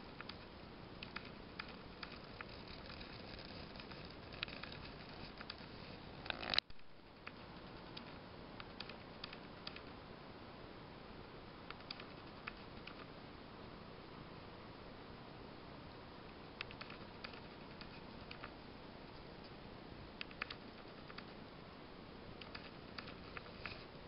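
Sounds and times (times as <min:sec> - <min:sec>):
low rolling noise: 0:00.0 - 0:24.0.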